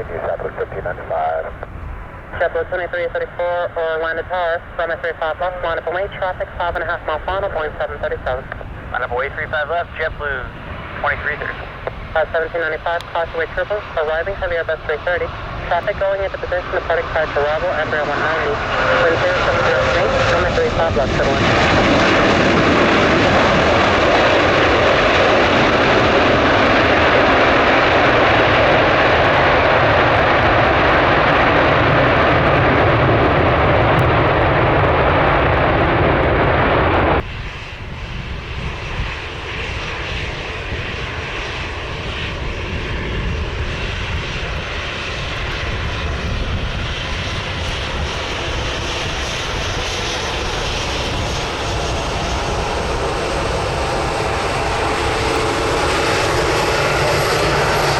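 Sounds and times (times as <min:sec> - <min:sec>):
jet airliner engine rush: 0:00.0 - 0:57.9.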